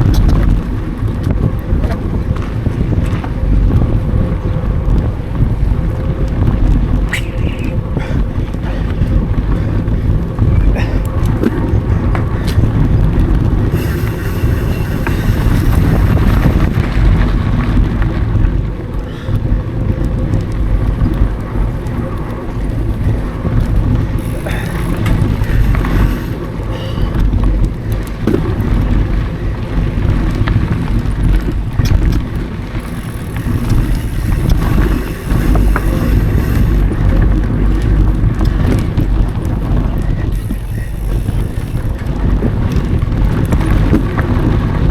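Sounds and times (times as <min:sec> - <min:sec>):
bike clicks and knocks: 0:00.0 - 0:44.9
bike tyres rumbling on dirt: 0:00.0 - 0:44.9
wind on microphone: 0:00.0 - 0:44.9.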